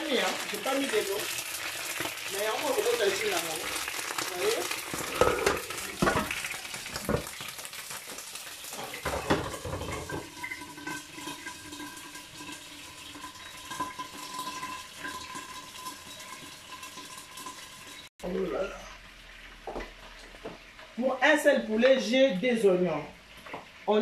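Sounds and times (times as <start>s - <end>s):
food sizzling in a pot: 0.0s - 22.3s.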